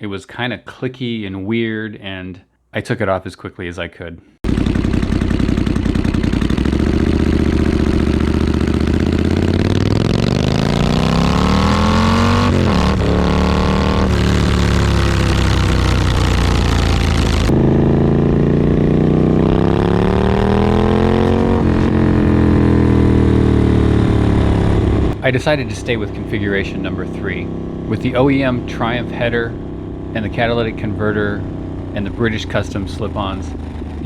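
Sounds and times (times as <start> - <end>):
motorcycle engine revving: 4.4 - 34.0.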